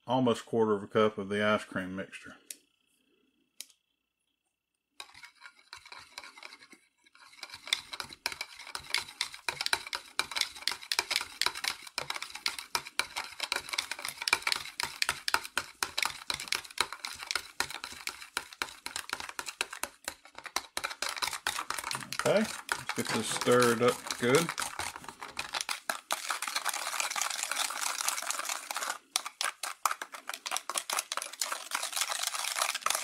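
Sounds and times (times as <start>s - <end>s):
wire whisk scraping plastic bowl: 5.0s - 33.0s.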